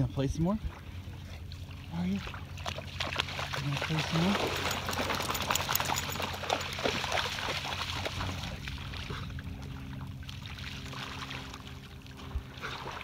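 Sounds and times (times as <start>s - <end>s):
dog paws splashing in water: 0.7s - 13.0s.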